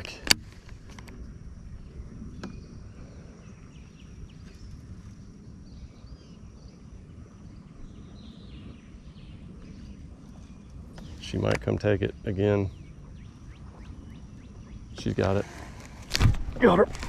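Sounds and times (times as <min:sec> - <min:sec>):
wind rumble on microphone: 0:00.0 - 0:17.0
small birds chirping: 0:01.2 - 0:16.0.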